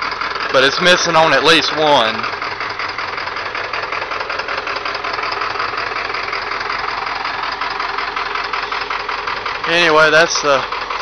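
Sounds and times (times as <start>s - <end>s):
diesel engine idling with clatter: 0.0s - 11.0s.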